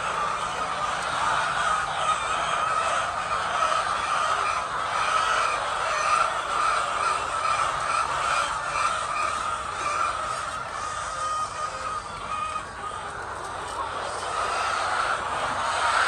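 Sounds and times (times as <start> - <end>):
chickens clucking and squawking: 0.0 - 16.0.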